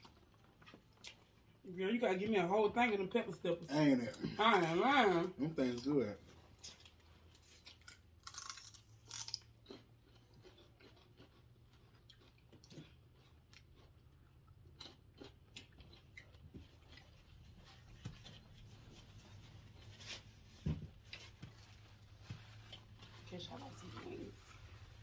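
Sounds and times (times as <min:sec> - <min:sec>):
people eating and chewing: 0:00.0 - 0:01.6, 0:03.3 - 0:25.0.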